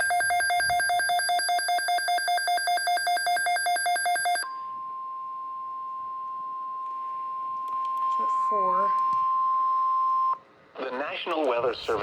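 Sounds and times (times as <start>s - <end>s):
pulsing ringing alarm: 0.0s - 10.2s.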